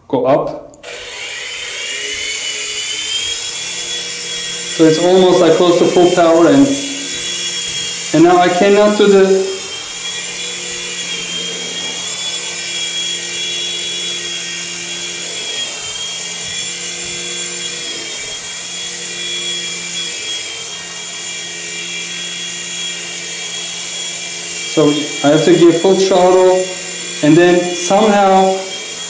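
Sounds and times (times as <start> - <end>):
toy helicopter motors whining: 0.8 - 29.0.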